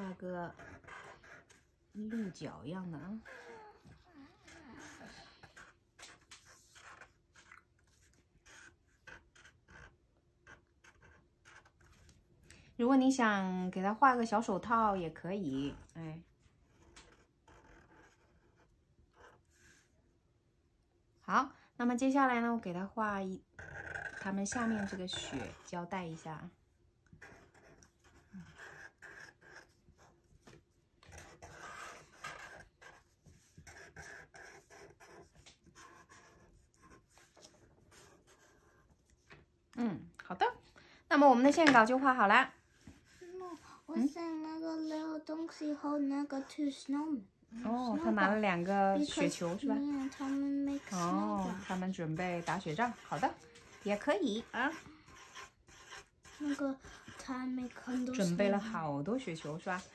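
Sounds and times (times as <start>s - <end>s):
marker drawing on paper: 0.0s - 12.2s, 12.9s - 20.0s, 22.0s - 39.4s, 40.4s - 59.9s.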